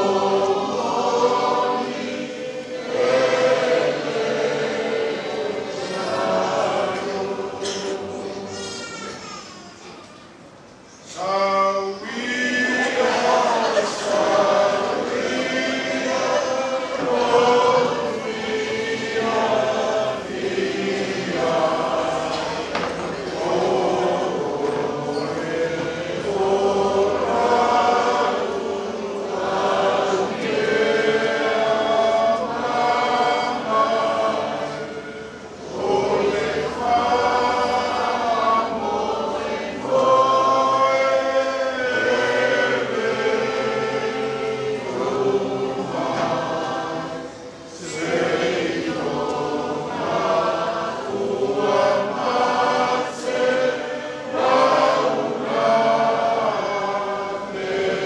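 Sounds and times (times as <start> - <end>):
group singing a hymn: 0.0 - 8.7, 10.8 - 58.0.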